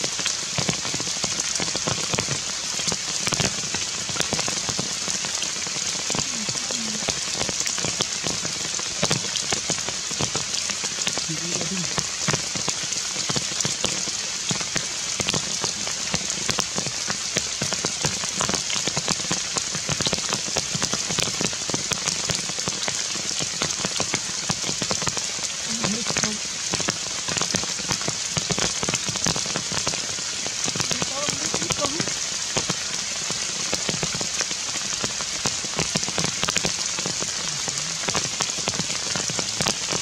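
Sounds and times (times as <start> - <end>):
heavy rain on foliage: 0.0 - 40.0.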